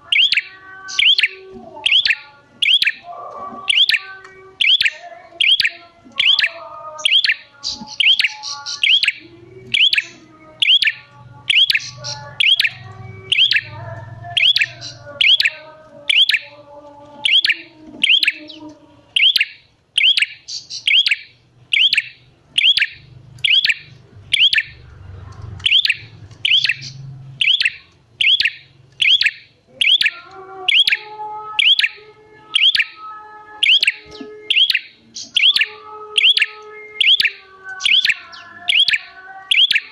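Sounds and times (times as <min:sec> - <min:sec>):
bird sharp high chirps: 0:00.0 - 0:03.1, 0:03.7 - 0:16.5, 0:17.2 - 0:18.6, 0:19.2 - 0:24.8, 0:25.6 - 0:33.0, 0:33.6 - 0:39.9.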